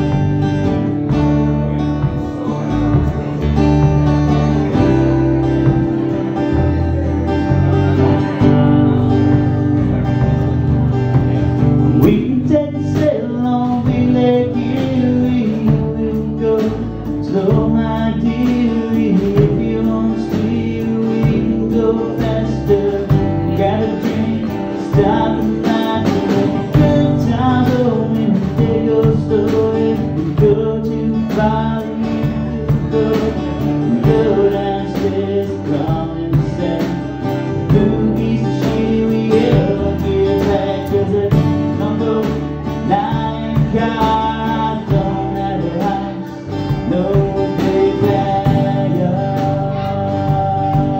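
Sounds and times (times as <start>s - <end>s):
acoustic guitar strumming: 0.0s - 50.9s
man singing: 0.0s - 50.9s.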